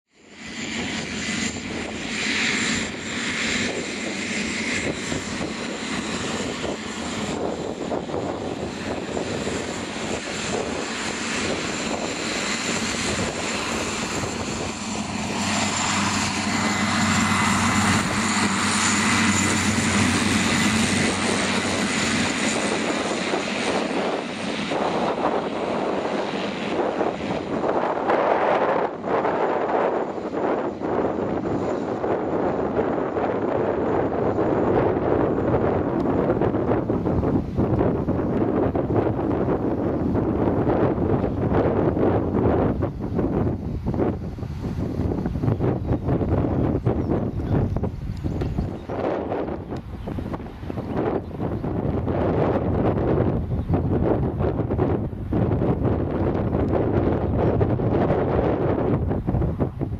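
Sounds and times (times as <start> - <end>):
turboprop engine and propeller: 0.1 - 59.9.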